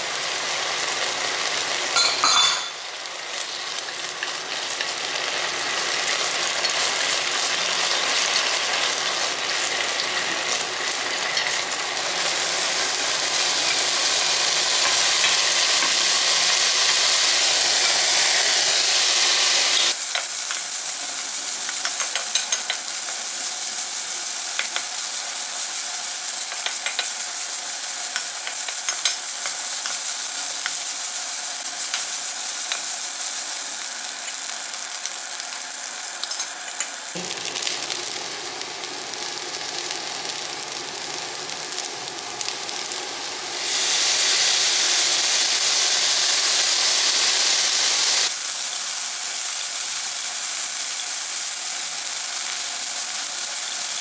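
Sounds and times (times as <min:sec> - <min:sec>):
rice sizzling in a wok: 0:00.0 - 0:54.0.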